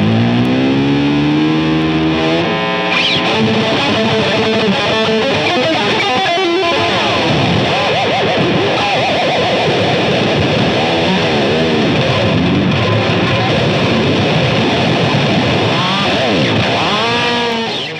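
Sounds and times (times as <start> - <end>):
electric guitar playing: 0.0 - 17.9.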